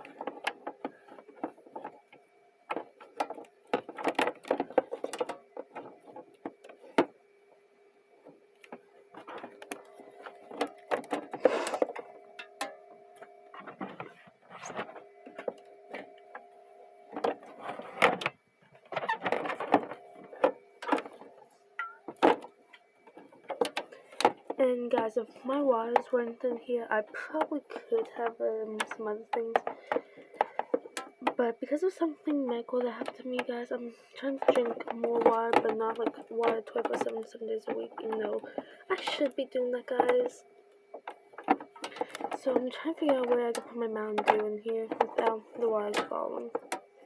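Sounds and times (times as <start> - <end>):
faint fridge hum: 0.0 - 47.0.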